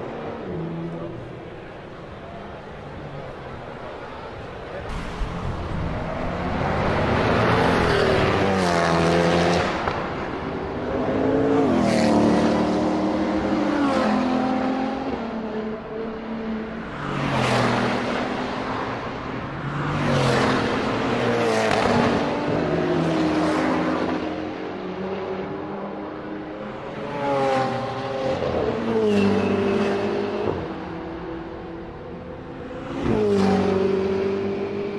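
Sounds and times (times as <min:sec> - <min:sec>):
sports cars accelerating past: 0:04.9 - 0:34.9.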